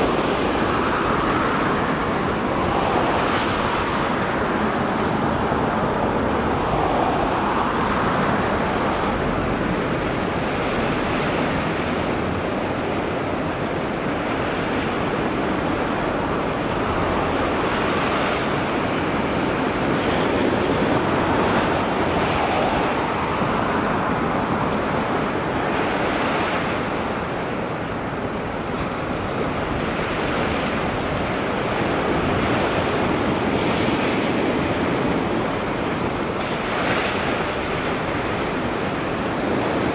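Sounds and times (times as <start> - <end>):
waves washing up beach: 0.0 - 39.9
wind rumbling on microphone: 0.0 - 39.9.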